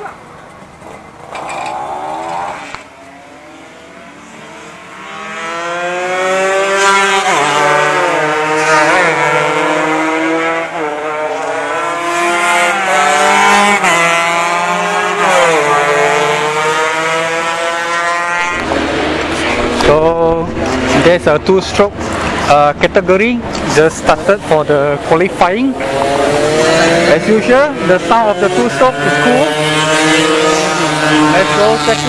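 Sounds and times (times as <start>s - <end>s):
racing motorcycle engines revving: 0.7s - 32.0s.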